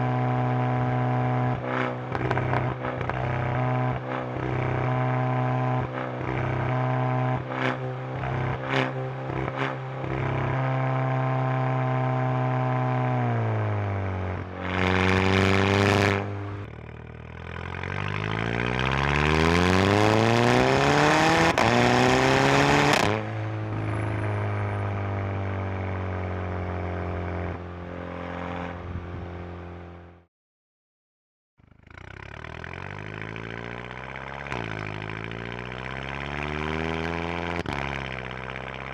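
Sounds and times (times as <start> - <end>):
car engine exhaust idling and revving: 0.0 - 30.2, 31.6 - 38.9.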